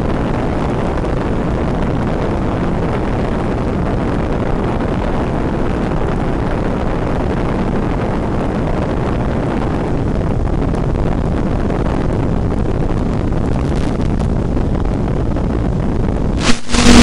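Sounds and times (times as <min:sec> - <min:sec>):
wind and flight noise: 0:00.0 - 0:17.0.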